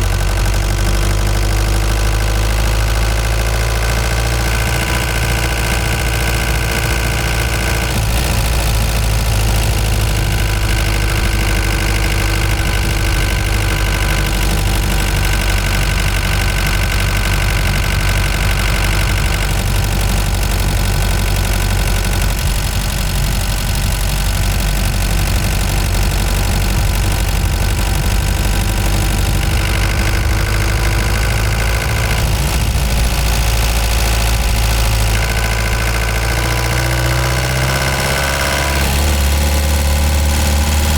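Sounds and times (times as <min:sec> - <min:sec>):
van engine running while driving: 0:00.0 - 0:40.9.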